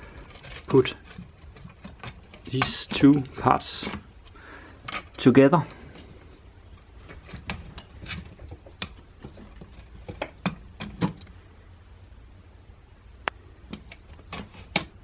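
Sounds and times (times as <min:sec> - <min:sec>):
tube parts clicking and knocking: 0:00.0 - 0:11.4, 0:13.2 - 0:15.0
low steady hum: 0:00.0 - 0:15.0.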